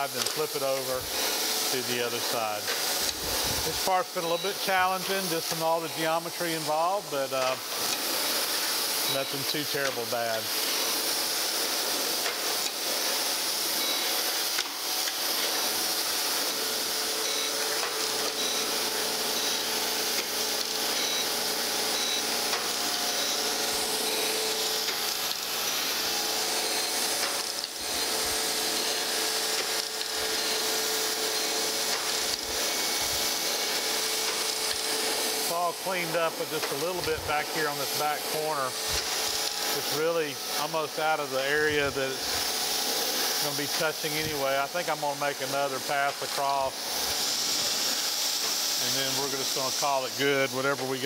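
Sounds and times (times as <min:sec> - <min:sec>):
grinding wheel hissing on metal: 0:00.0 - 0:51.0
steady machine hum: 0:00.0 - 0:51.0.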